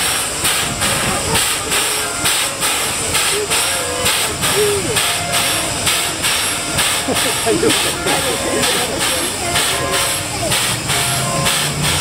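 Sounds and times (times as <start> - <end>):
faint voices: 0.0 - 12.0
steam locomotive hissing: 0.0 - 12.0.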